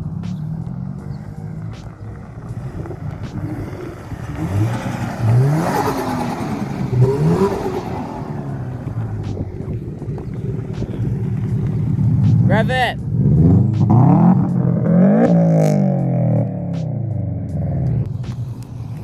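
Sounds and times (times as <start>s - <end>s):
tyre noise: 0.0s - 16.1s
car accelerating past: 0.0s - 19.0s.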